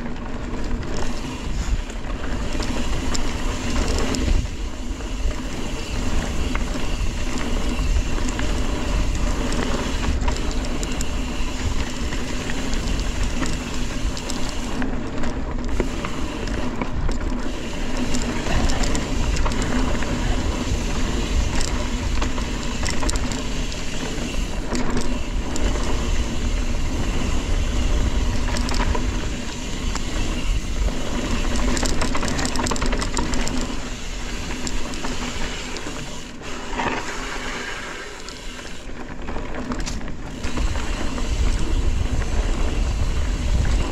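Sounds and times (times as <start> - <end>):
bike rattling over rough ground: 0.0 - 43.9
wind noise on microphone: 0.0 - 43.9.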